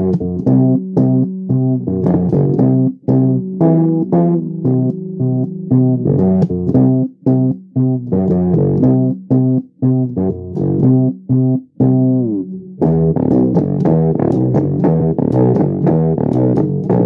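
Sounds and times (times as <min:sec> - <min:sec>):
fretless bass plucked notes: 0:00.0 - 0:17.0.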